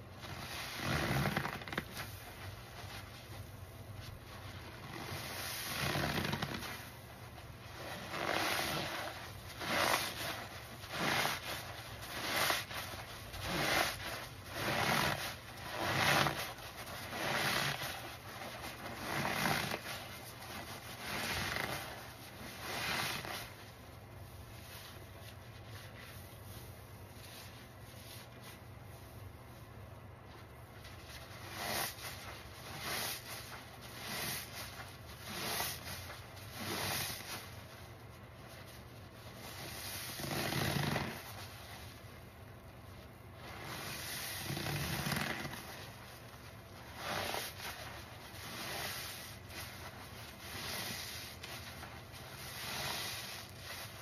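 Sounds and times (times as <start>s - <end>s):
soapy sponge squelching: 0.0s - 29.6s, 30.2s - 54.0s.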